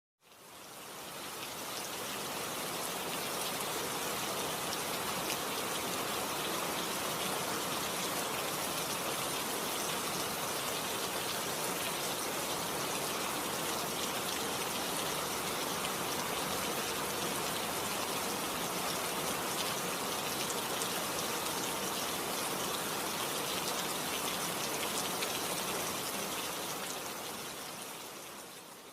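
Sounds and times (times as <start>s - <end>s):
river water rushing: 1.9s - 27.5s.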